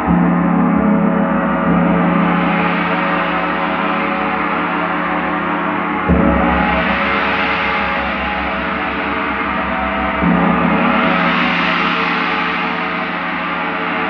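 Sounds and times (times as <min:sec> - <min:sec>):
large bell ringing: 0:01.8 - 0:14.0.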